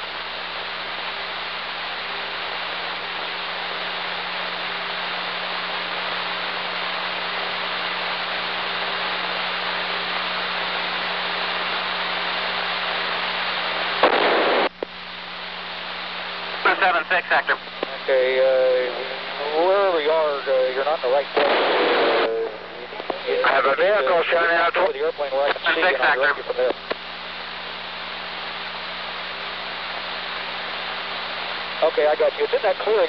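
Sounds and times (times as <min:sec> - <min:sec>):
burst of static: 0:00.0 - 0:33.0
low steady hum: 0:00.0 - 0:33.0
radio static hiss: 0:00.0 - 0:33.0.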